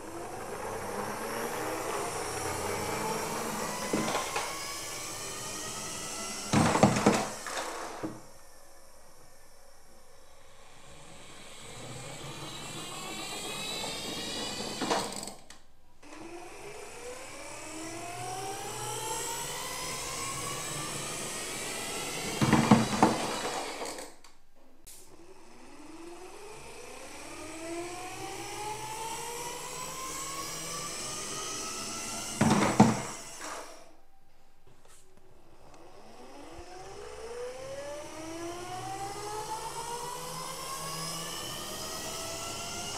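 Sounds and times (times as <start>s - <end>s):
toy car motor whining: 0.2s - 8.4s, 10.7s - 24.2s, 25.6s - 34.0s, 35.6s - 42.9s.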